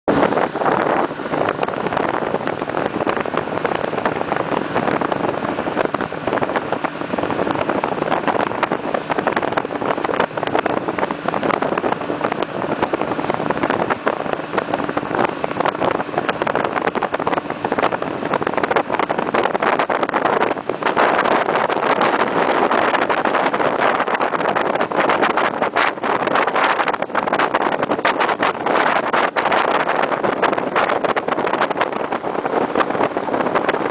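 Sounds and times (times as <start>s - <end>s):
boat engine running: 0.0s - 33.9s
water rushing: 0.1s - 33.9s
wind buffeting microphone: 0.1s - 33.9s.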